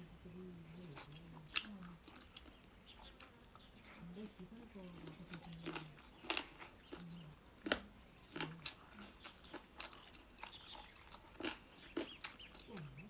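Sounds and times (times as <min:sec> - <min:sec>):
person chewing with wet smacks: 0:00.8 - 0:13.0.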